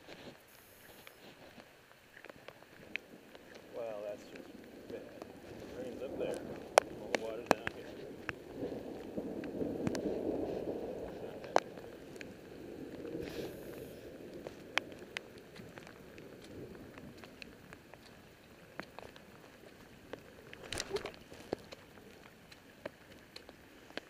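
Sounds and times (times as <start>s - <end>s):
footsteps on wet lawn: 0.0s - 24.0s.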